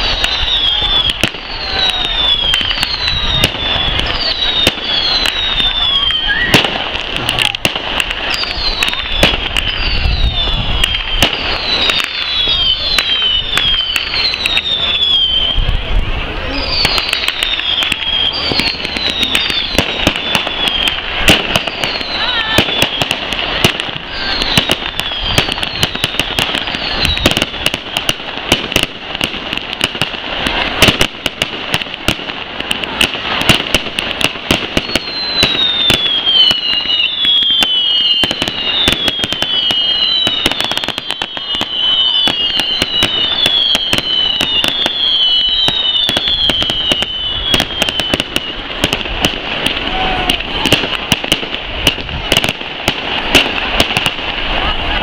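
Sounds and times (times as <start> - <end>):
falling firework whistles: 0.0 - 55.0
fireworks bangs and crackling: 0.0 - 55.0.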